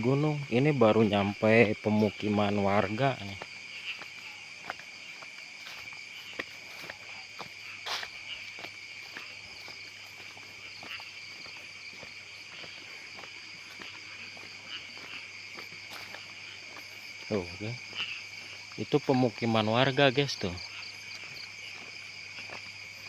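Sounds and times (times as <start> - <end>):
crickets and insects chirping: 0.0 - 23.0
footsteps on a path: 0.0 - 23.0.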